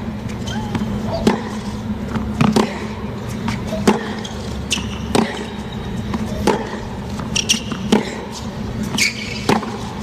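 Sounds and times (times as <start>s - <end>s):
tennis racquets hitting ball: 0.4s - 10.0s.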